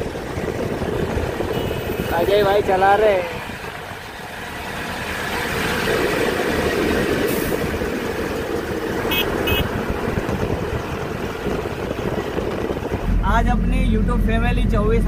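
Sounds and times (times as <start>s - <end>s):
road and wind noise: 0.0s - 15.0s
truck engine: 0.0s - 15.0s.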